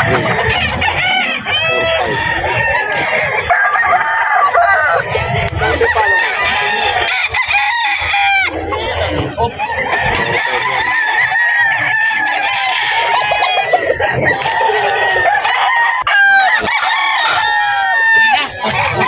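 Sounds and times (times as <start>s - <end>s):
roosters crowing and clucking: 0.0s - 19.0s.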